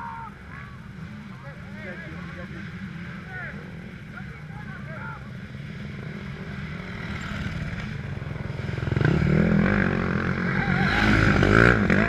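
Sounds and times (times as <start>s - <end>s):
motocross bike engine running: 0.5s - 12.0s.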